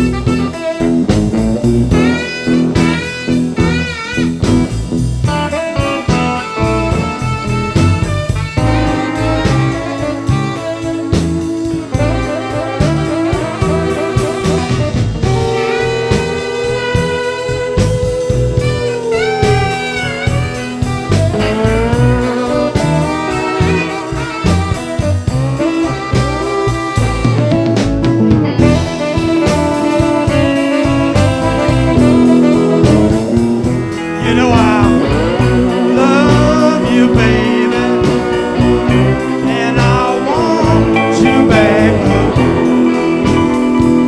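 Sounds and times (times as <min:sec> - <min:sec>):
drum kit: 0:00.0 - 0:44.0
electric bass: 0:00.0 - 0:44.0
guitars: 0:00.0 - 0:44.0
saxophone melody: 0:00.0 - 0:44.0.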